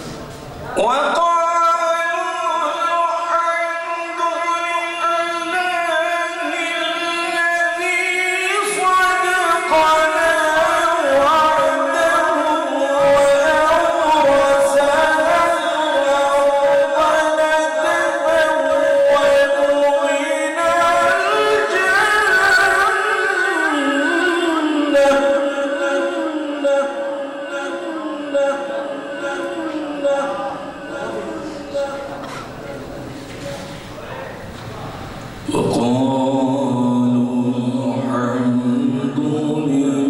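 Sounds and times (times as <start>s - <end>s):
man reciting melodic chant: 0.6s - 40.0s.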